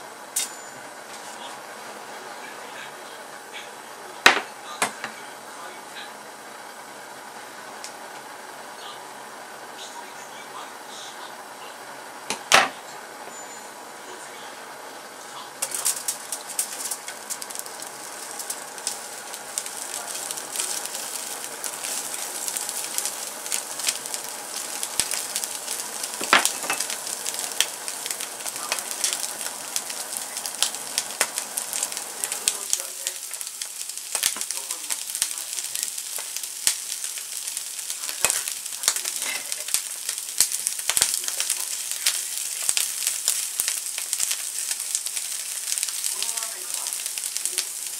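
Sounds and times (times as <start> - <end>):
shrimp sizzling in hot oil: 0.0 - 47.9
steady low hum: 0.0 - 47.9.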